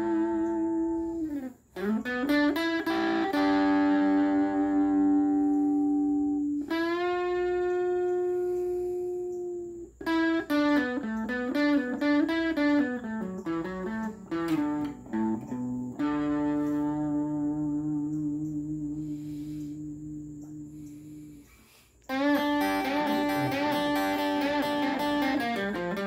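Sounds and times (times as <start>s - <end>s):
guitar playing slow melody: 0.0s - 26.0s.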